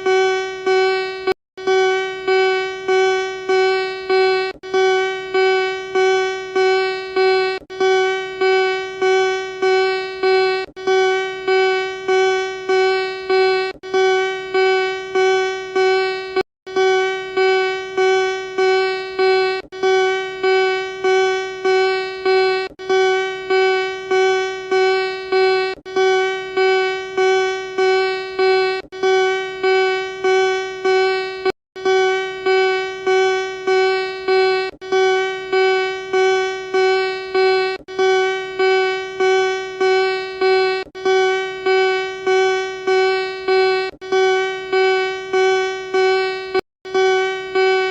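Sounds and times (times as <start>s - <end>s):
pulsing buzzy alert tone: 0.0s - 47.9s.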